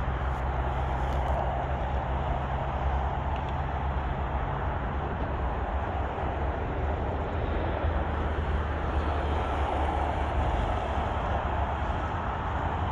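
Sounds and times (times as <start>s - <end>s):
freeway traffic: 0.0s - 12.9s.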